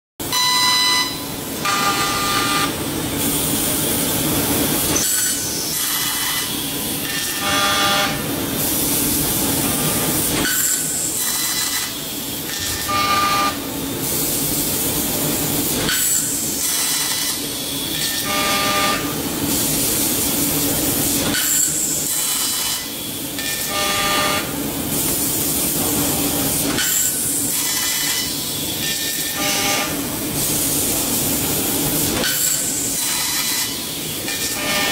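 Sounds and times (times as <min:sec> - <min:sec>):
laser cutting jet hiss: 0:01.2 - 0:34.9.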